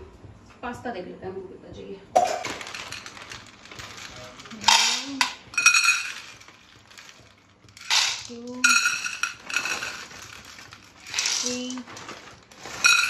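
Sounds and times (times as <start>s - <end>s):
dry pasta rattling into bowl: 2.2s - 13.0s.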